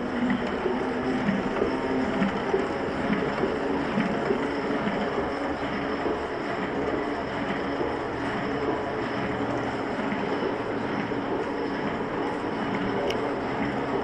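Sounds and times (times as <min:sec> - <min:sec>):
printing press running: 0:00.0 - 0:14.0.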